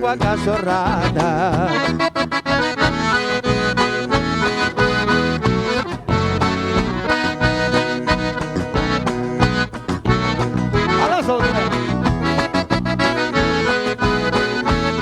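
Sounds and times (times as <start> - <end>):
button accordion playing: 0.0 - 15.0
rhythm accompaniment: 0.0 - 15.0.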